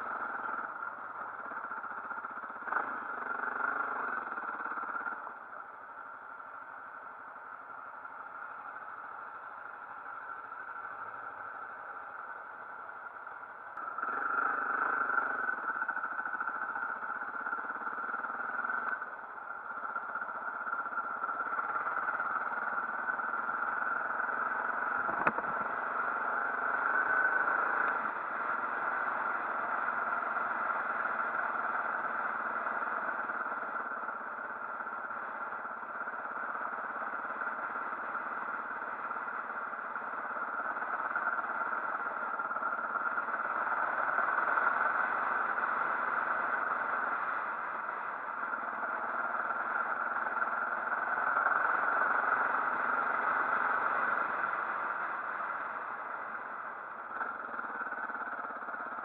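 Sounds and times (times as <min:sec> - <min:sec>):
motorcycle engine and road noise: 0:00.0 - 0:59.0.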